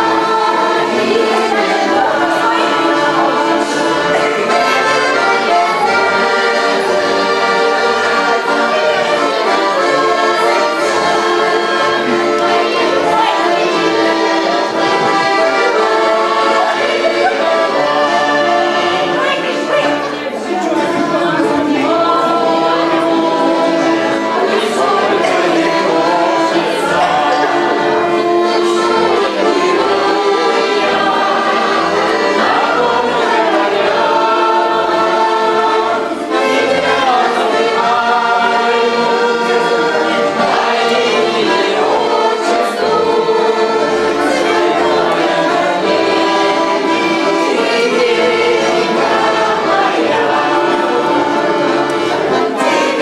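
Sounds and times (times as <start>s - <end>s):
women singing in chorus: 0.0s - 53.0s.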